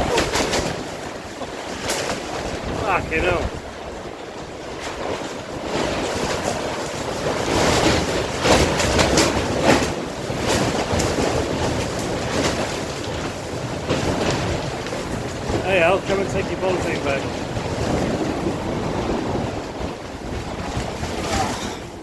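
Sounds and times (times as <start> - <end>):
wind gusting on microphone: 0.0 - 22.0.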